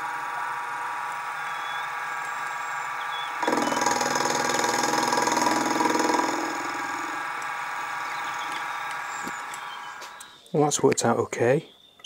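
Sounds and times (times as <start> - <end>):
end mill cutting metal: 0.0 - 10.2
milling machine motor whine: 0.0 - 10.4.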